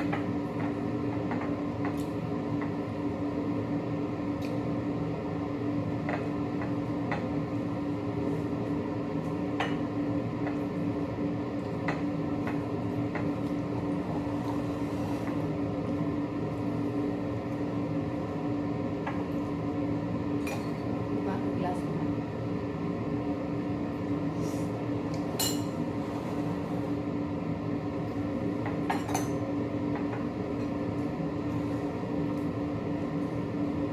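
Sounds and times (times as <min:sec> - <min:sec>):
steady mechanical hum: 0:00.0 - 0:33.9.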